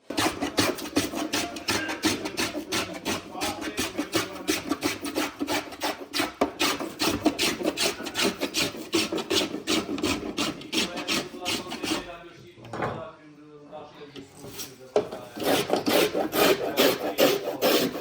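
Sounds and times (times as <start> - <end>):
hand rasping wood: 0.0 - 12.1, 15.0 - 18.0.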